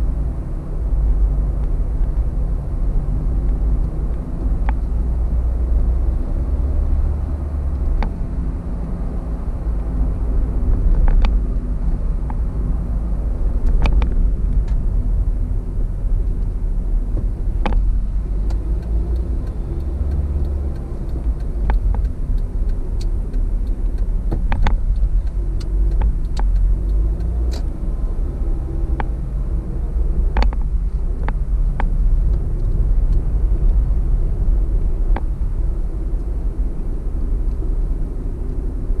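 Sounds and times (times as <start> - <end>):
car road noise rumble: 0.0 - 39.0.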